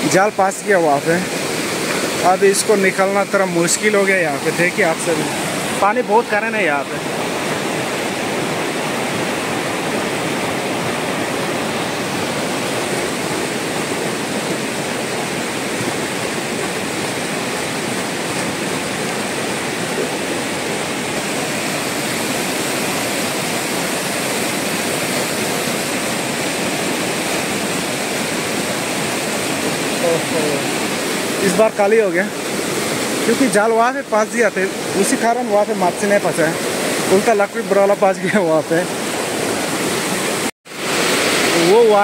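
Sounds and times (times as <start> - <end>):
river water rushing over rocks: 0.0 - 42.0.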